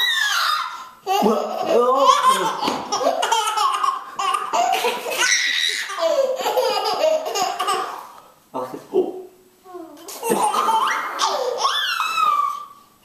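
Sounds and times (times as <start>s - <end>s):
baby laughing: 0.0s - 8.1s, 10.0s - 12.8s.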